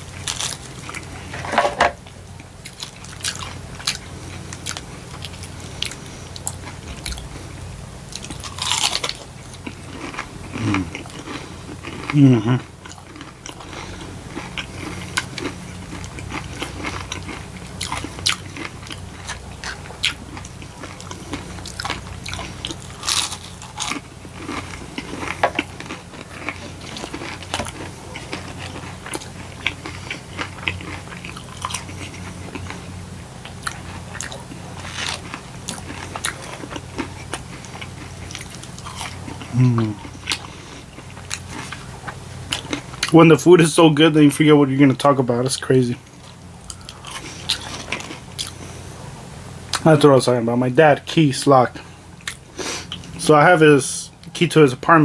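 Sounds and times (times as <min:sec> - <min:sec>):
chewing crispy food: 0:00.0 - 0:55.0
steady low hum: 0:00.0 - 0:55.0.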